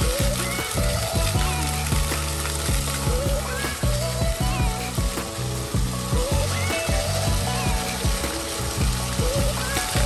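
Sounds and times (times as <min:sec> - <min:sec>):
fountain water splashing: 0:00.0 - 0:10.0
music with beat and bass: 0:00.0 - 0:10.0.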